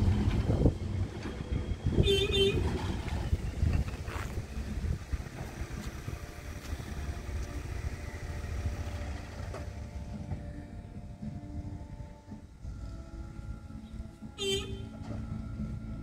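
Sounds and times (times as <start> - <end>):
wheels clicking over rail joints: 0.0 - 13.5
tram rumbling over track: 0.0 - 16.0.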